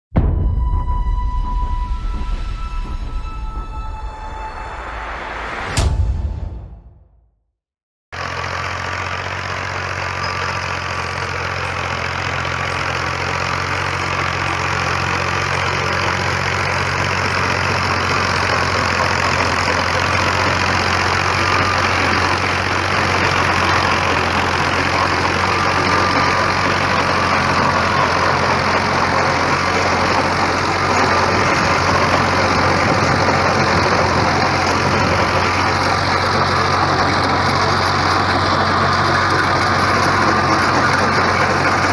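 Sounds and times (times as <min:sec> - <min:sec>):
tractor diesel engine running: 0:08.1 - 0:41.9.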